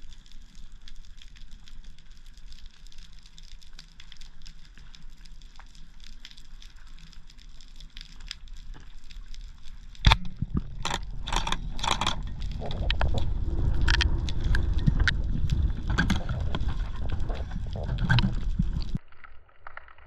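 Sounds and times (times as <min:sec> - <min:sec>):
low rumbling water: 0:00.0 - 0:20.0.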